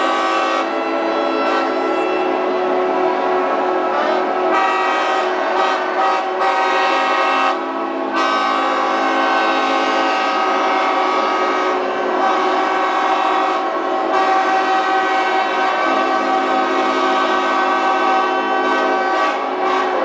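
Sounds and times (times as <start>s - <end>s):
many boat horns sounding: 0.0s - 20.0s.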